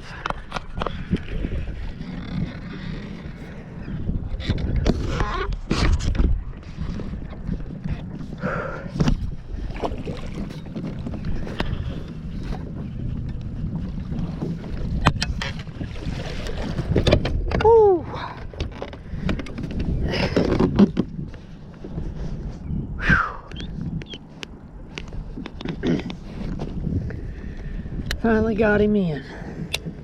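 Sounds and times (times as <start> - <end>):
low rumble of wind and water: 0.0 - 30.0.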